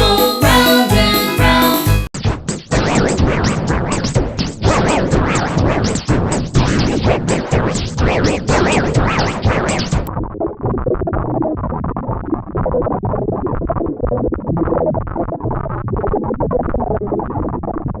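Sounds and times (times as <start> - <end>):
electronic remix with synthesizer tones: 0.0 - 18.0.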